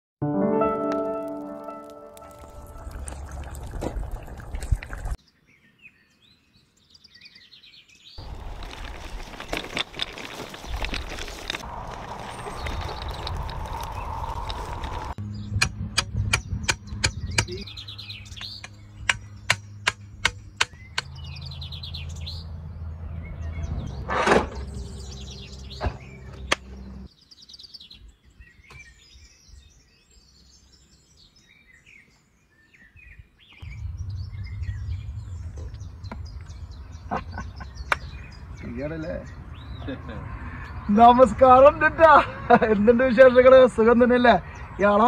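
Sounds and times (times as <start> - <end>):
birds chirping: 1.8 - 45.0.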